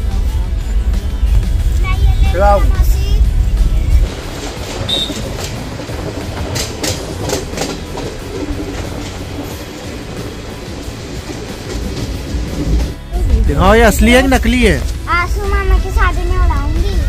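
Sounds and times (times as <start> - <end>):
train rumbling: 0.0 - 17.0
wheels clacking over rail joints: 0.0 - 17.0.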